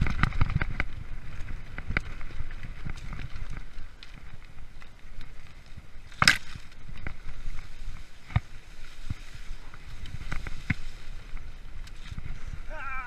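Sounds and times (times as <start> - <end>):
bike knocks and rattles: 0.0 - 5.4, 6.1 - 12.4
bike tyres rumbling on trail: 0.0 - 13.0.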